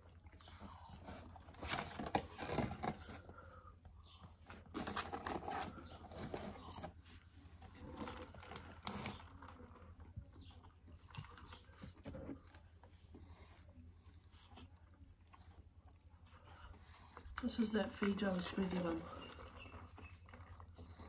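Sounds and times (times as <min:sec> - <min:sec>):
people chewing: 0:00.0 - 0:21.0.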